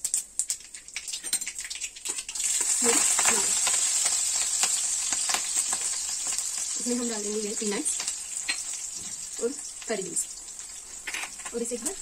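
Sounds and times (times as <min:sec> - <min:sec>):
oil sizzling with crackles: 0:00.0 - 0:12.0.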